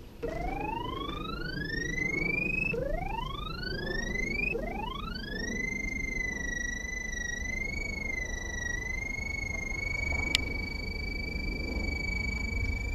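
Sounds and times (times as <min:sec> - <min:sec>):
electronic whistle-like tone: 0:00.2 - 0:12.9.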